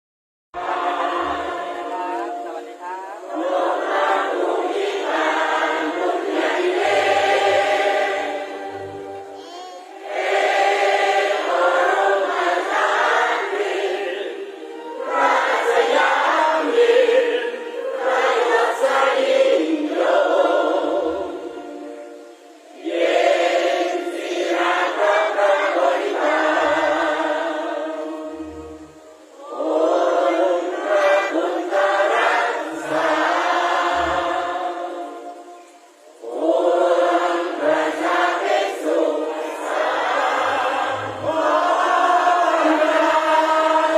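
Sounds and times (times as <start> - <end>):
choir singing: 0.6 - 43.9.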